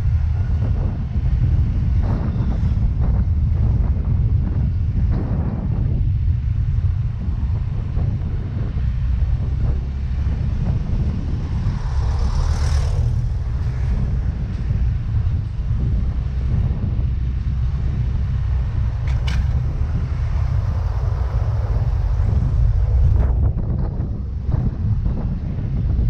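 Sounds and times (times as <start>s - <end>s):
scooter engine rumble: 0.0s - 26.0s
wind buffeting microphone: 0.0s - 26.0s.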